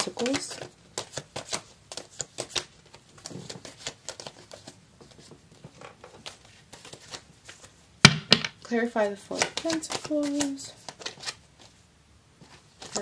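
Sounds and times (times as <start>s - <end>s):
cards being shuffled: 0.0s - 8.5s, 9.1s - 11.8s, 12.4s - 13.0s.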